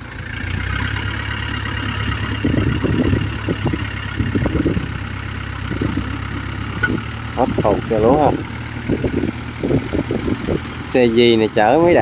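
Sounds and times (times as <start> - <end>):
diesel engine under load: 0.0 - 12.0.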